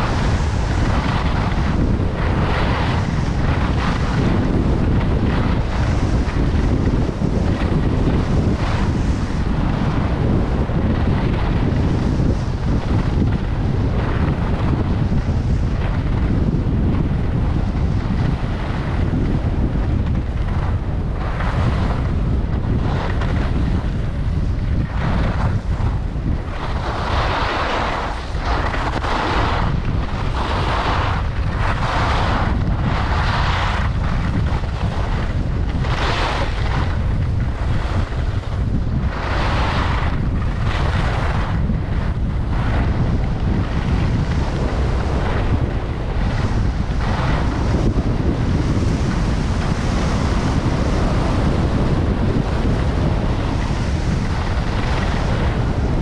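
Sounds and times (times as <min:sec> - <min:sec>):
skis scraping on snow: 0:00.0 - 0:56.0
wind rushing over microphone: 0:00.0 - 0:56.0.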